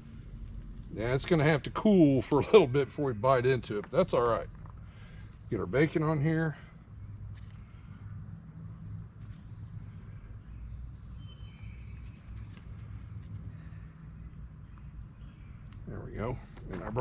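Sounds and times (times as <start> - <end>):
crickets and insects droning: 0.0 - 17.0.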